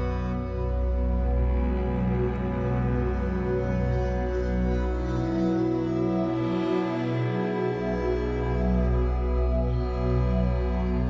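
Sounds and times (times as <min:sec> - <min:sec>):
low steady drone: 0:00.0 - 0:11.0.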